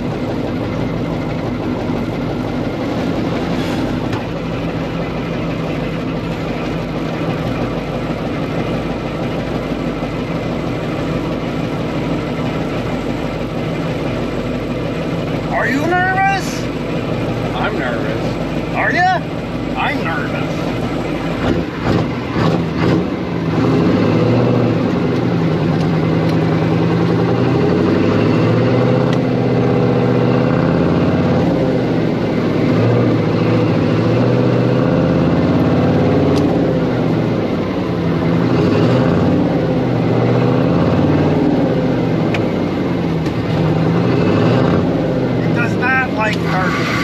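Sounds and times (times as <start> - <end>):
diesel truck engine under load: 0.0 - 47.0.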